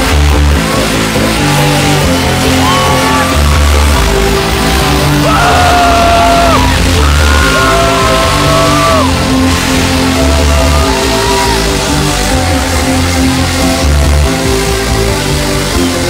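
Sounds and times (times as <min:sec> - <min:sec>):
crowd yelling: 0:00.0 - 0:16.0
loud trance music: 0:00.0 - 0:16.0.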